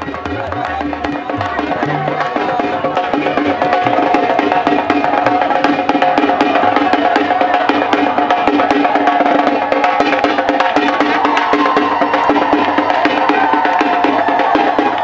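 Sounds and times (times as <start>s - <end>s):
barrel drum beaten with sticks: 0.0s - 15.0s.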